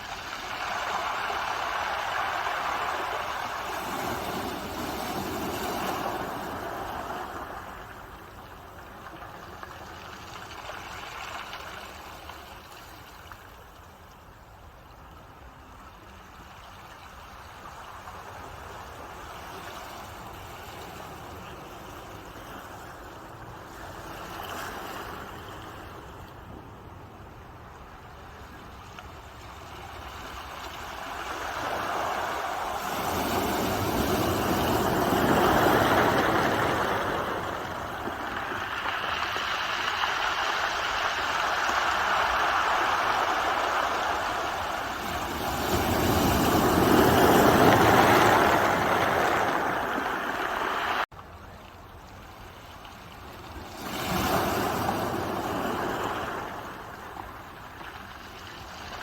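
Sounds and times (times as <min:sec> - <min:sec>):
ocean waves breaking on shore: 0:00.0 - 0:14.4, 0:15.0 - 0:51.1, 0:51.8 - 0:59.0.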